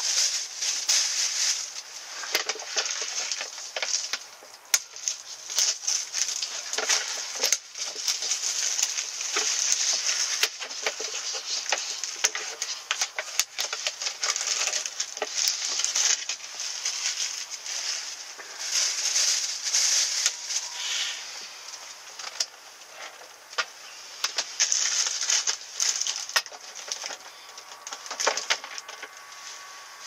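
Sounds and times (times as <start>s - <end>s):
plastic film crinkling: 0.0s - 30.0s.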